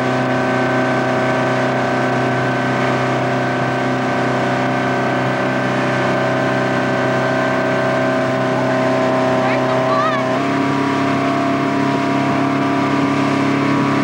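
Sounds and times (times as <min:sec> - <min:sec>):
boat engine droning: 0:00.0 - 0:14.0
wind and water rushing: 0:00.0 - 0:14.0.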